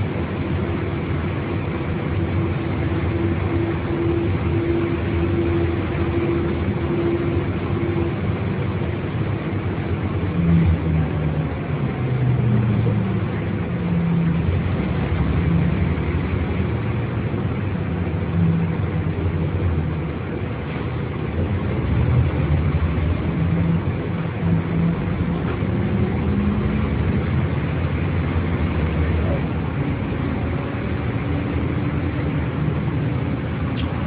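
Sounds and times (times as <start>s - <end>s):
bus engine drone: 0.0s - 34.0s.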